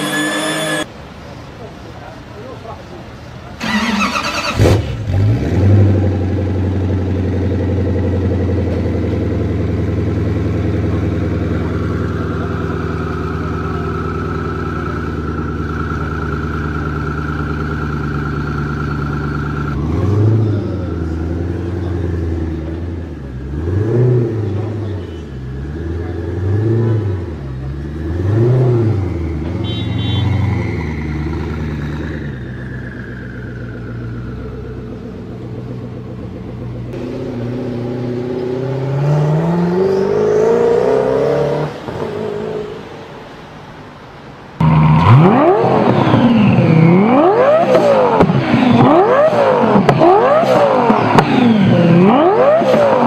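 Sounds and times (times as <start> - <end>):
car engine revving and idling: 3.6 - 43.5, 44.6 - 53.0.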